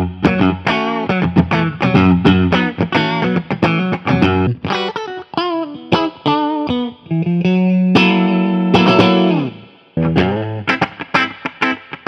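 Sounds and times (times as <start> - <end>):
electric guitar playing: 0.0 - 12.0.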